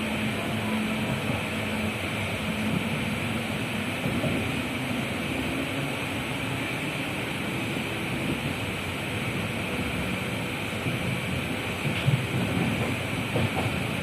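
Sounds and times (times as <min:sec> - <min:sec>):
train rumble and hiss: 0:00.0 - 0:14.0.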